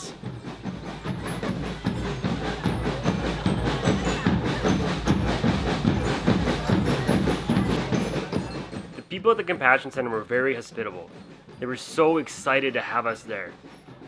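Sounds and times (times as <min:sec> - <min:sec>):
marching band drums: 0:00.0 - 0:14.0.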